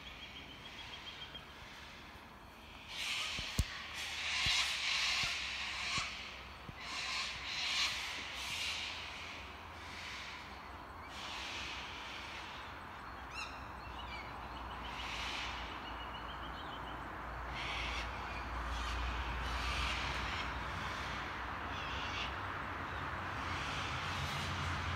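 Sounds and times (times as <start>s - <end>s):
kookaburras calling: 0.0s - 22.7s.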